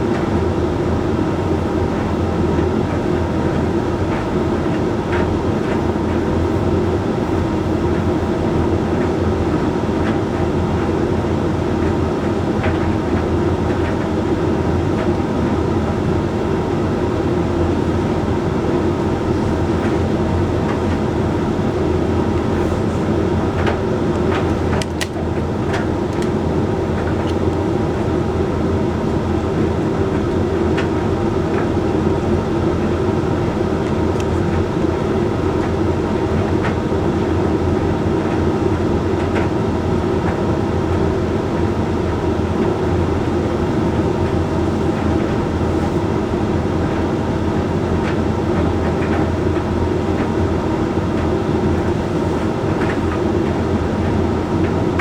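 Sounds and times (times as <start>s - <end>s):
tumble dryer motor humming: 0.0s - 55.0s.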